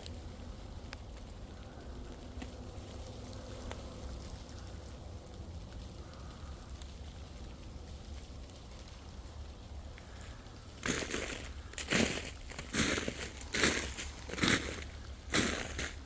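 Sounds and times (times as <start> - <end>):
ice and drips falling through trees: 0.0 - 16.0
low steady rumble: 0.0 - 16.0.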